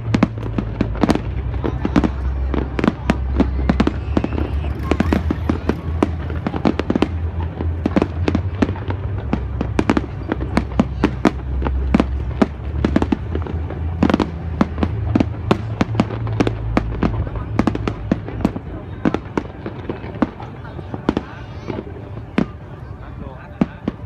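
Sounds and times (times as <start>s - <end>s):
low rumble: 0.0s - 21.0s
fireworks bangs and cracks: 0.0s - 24.0s.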